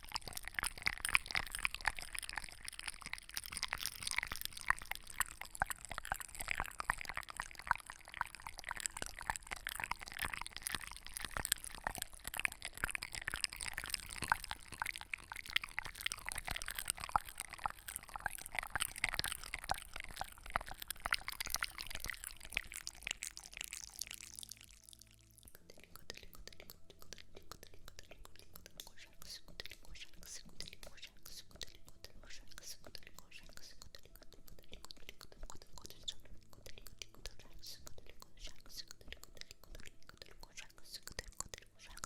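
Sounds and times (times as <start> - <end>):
small crackles and clicks: 0.0 - 42.0.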